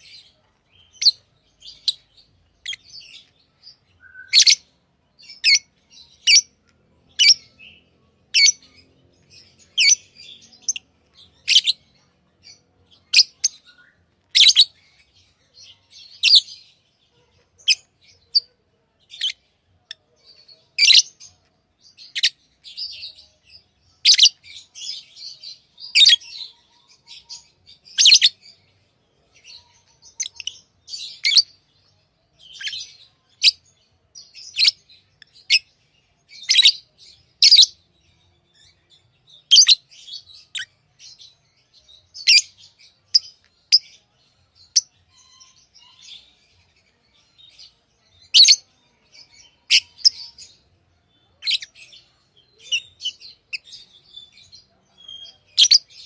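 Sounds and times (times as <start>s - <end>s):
lovebirds chirping: 0.0s - 56.0s
soft bird chatter: 0.0s - 56.0s.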